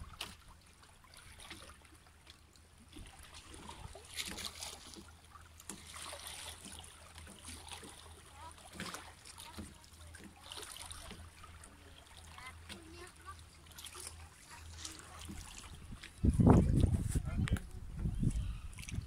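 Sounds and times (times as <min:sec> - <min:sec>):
water lapping among rocks: 0:00.0 - 0:19.0.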